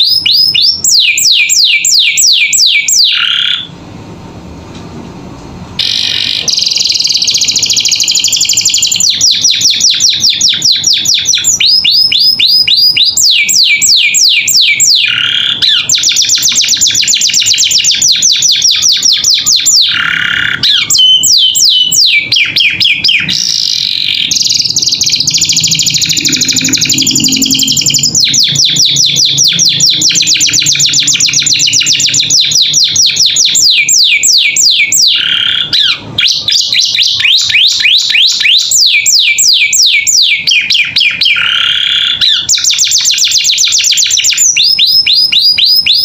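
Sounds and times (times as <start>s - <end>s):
canary singing trills: 0.0s - 3.8s, 5.8s - 46.0s.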